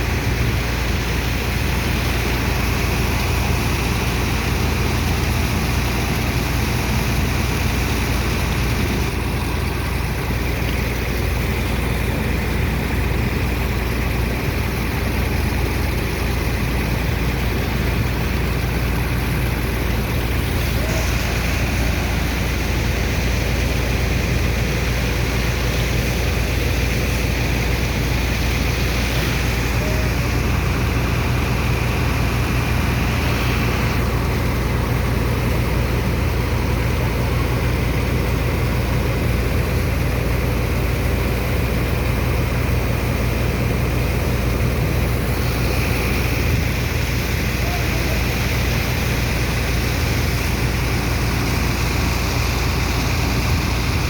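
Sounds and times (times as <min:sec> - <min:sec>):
diesel engine and pump humming: 0:00.0 - 0:54.0.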